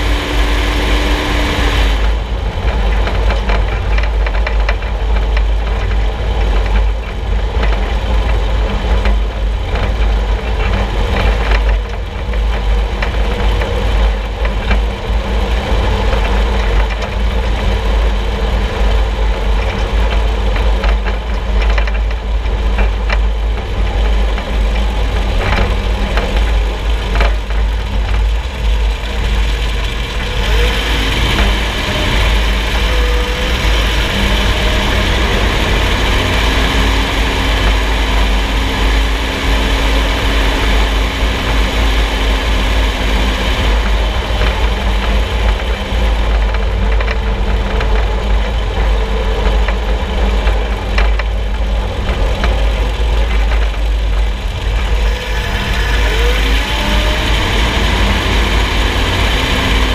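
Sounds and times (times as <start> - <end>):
vehicle road rumble: 0.0 - 59.9.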